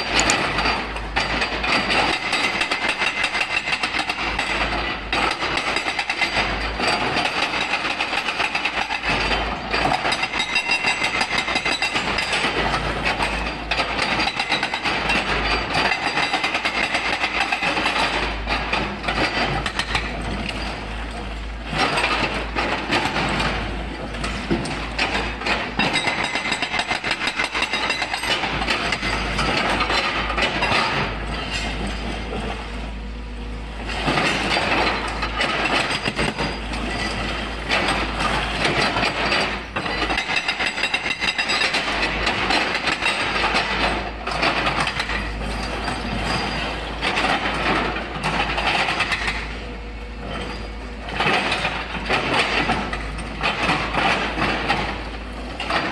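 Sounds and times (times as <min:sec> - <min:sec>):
hydraulic breaker hammering stone: 0:00.0 - 0:32.7, 0:33.8 - 0:55.9.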